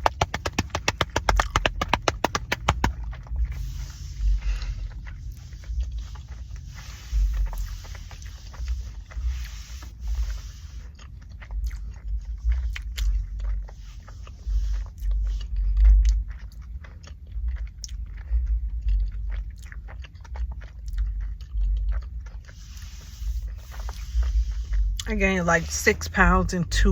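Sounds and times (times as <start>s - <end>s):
mouth clicks and smacks: 0.0s - 4.1s, 4.9s - 25.1s
chewing and biting food: 0.0s - 26.2s
low rumble: 0.0s - 26.9s.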